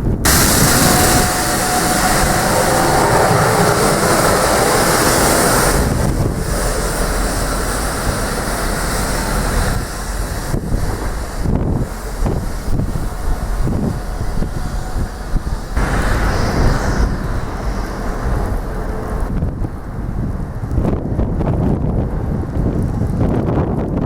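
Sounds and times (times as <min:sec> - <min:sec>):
train rumbling past: 0:00.0 - 0:23.2
wind buffeting microphone: 0:00.0 - 0:24.0.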